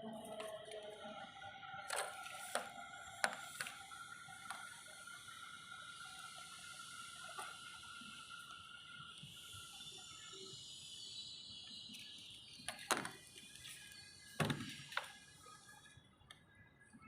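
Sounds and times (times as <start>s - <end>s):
high-pitched background hiss: 0.0s - 16.2s.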